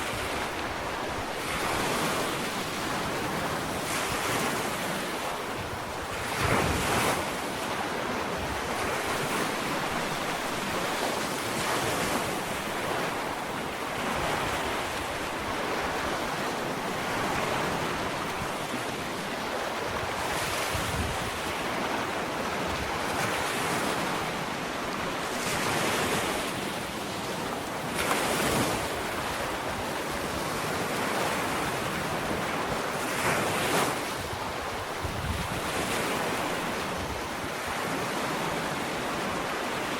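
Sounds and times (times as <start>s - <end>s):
ocean waves breaking on shore: 0.0s - 39.9s
wind on microphone: 0.0s - 39.9s.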